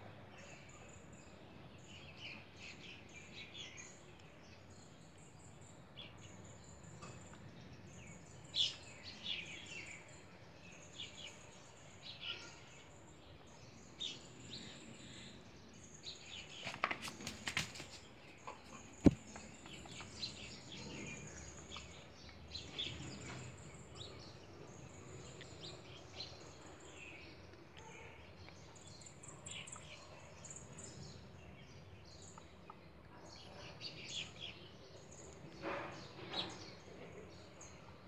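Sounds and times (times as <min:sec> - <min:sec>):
faint small birds chirping: 0:00.0 - 0:38.0.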